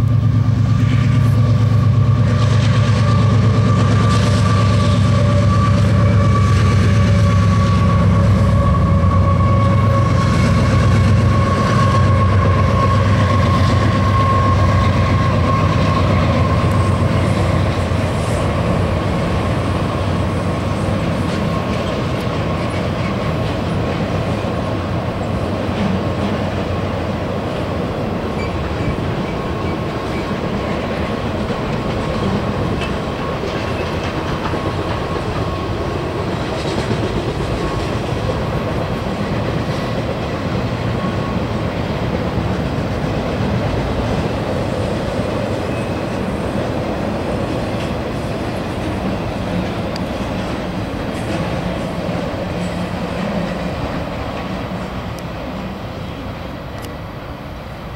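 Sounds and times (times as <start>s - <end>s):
freight train wheels on rails: 0.0s - 57.9s.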